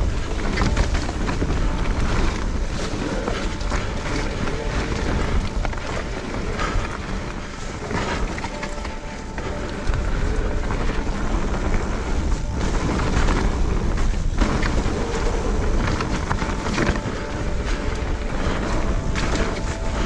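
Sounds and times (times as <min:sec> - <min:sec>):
bike clattering over bumps: 0:00.0 - 0:20.0
tyres rumbling on trail: 0:00.0 - 0:20.0
wind buffeting microphone: 0:00.0 - 0:20.0.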